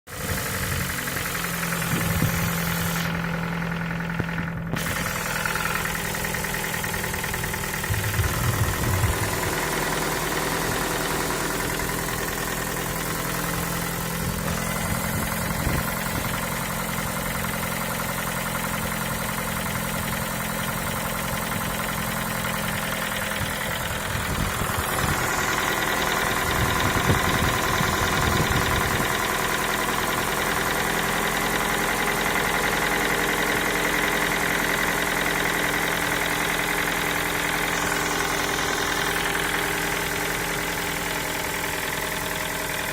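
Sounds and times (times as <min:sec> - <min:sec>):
engine knocking: 0:00.1 - 0:42.9
petrol engine idling: 0:00.1 - 0:42.9.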